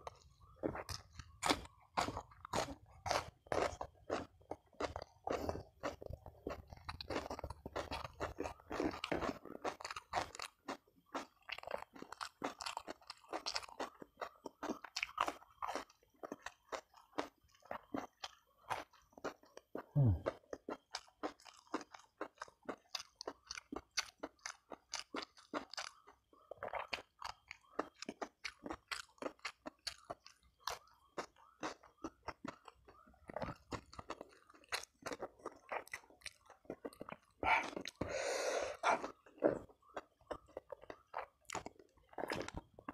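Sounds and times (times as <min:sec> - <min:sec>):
chewing crunchy food: 0:00.0 - 0:42.9.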